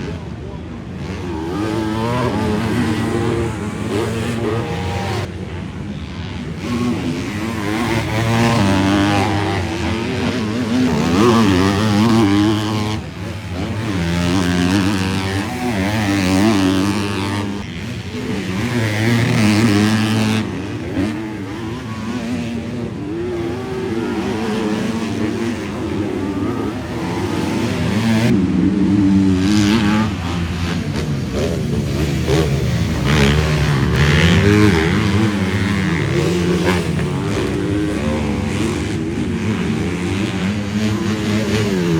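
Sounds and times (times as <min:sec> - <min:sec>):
motocross bikes revving: 0:00.0 - 0:41.9.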